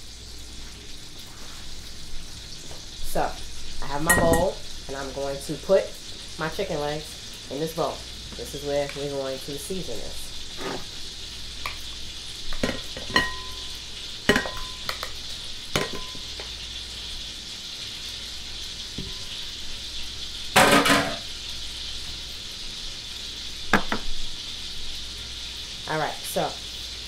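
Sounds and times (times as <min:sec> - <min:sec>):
oil sizzling in a frying pan: 0:00.0 - 0:27.0.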